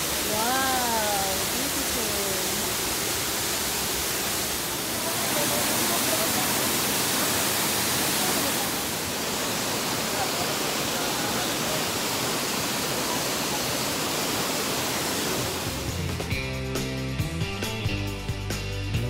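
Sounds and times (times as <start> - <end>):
waterfall rushing: 0.0 - 16.2.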